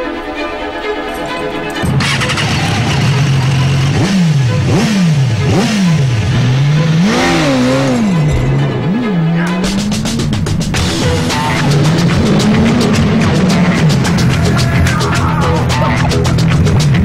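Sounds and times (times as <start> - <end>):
motorcycle engine revving: 1.7 - 17.0.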